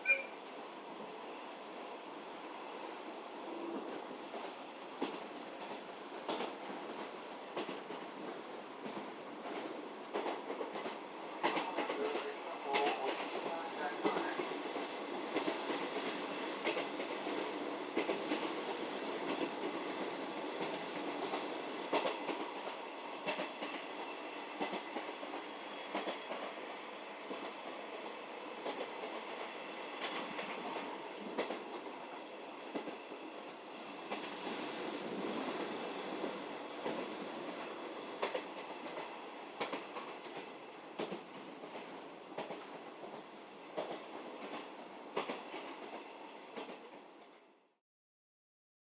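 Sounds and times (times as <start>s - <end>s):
train rumbling in motion: 0.0s - 47.3s.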